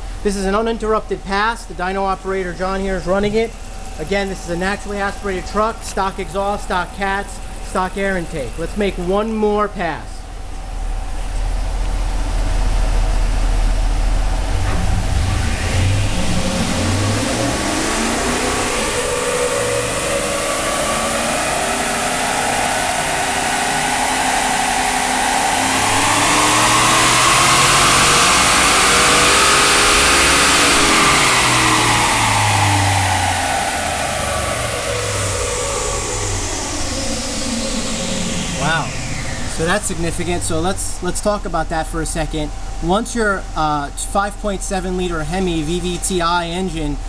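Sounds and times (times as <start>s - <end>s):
truck engine revving: 0.0s - 47.0s.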